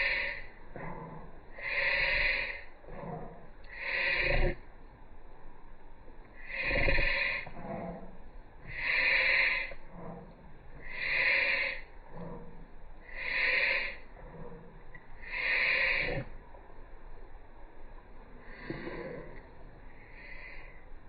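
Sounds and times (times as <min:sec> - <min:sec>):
dog laboured breathing: 0:00.0 - 0:05.0, 0:06.2 - 0:16.6, 0:18.4 - 0:21.0.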